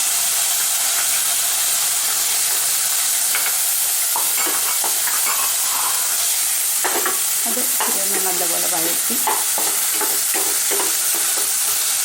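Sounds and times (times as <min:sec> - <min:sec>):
onions sizzling in hot oil: 0:00.0 - 0:12.0
spoon scraping pan: 0:02.0 - 0:11.9.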